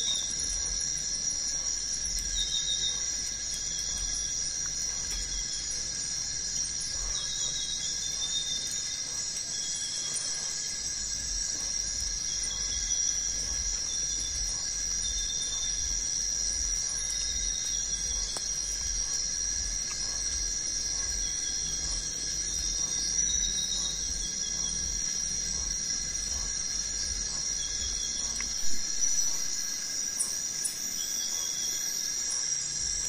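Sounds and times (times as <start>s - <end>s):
high-pitched insect drone: 0.0s - 33.0s
insect chirps: 0.0s - 33.0s.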